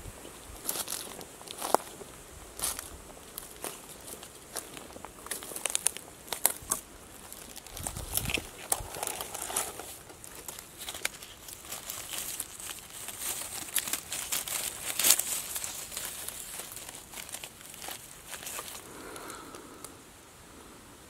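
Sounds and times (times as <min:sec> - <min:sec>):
twigs and leaves crackling: 0:00.5 - 0:20.0.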